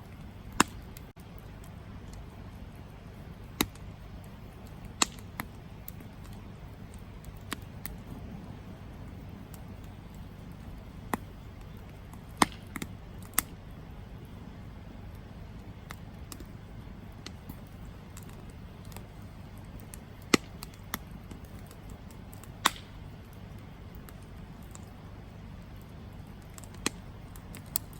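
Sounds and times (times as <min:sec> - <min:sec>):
campfire rumble: 0:00.0 - 0:27.9
fire crackling and popping: 0:00.0 - 0:27.9.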